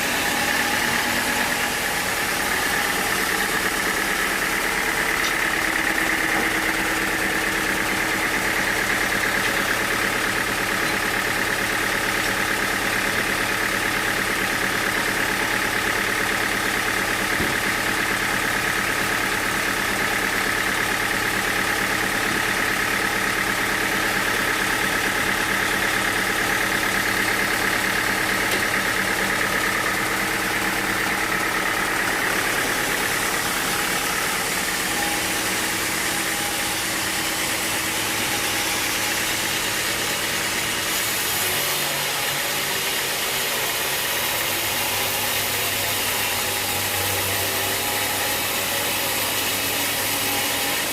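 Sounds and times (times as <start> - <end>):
sawmill machinery hum and whine: 0.0 - 50.9.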